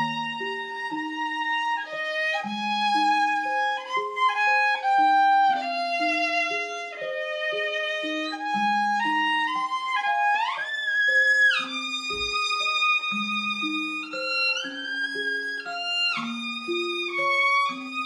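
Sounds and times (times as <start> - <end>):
solo violin melody: 0.0 - 18.0.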